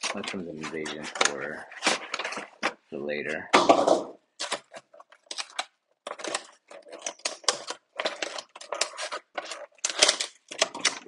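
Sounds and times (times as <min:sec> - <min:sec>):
packaging rustling and crinkling: 0:00.0 - 0:02.8, 0:04.4 - 0:11.0.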